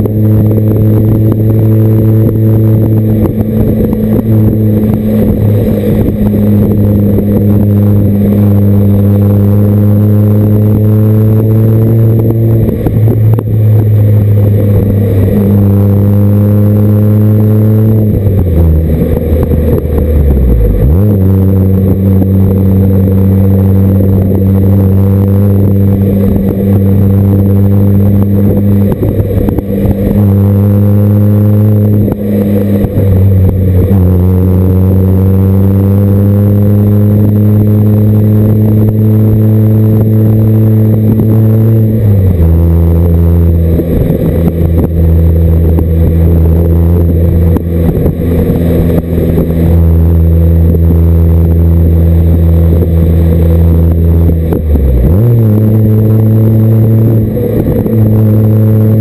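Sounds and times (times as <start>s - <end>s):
car exhaust engine note: 0.0s - 59.0s.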